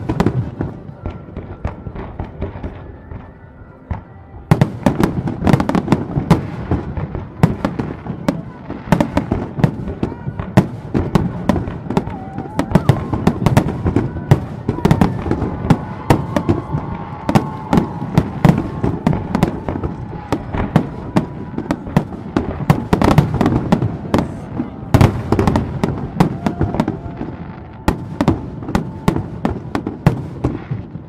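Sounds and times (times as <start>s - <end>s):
fireworks booming and cracking: 0.0s - 31.0s.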